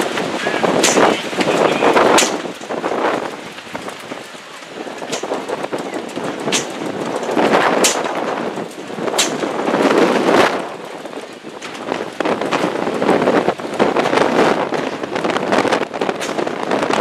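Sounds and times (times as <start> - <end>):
microphone overload crackling pops: 0.0 - 17.0
strong wind buffeting microphone: 0.0 - 17.0.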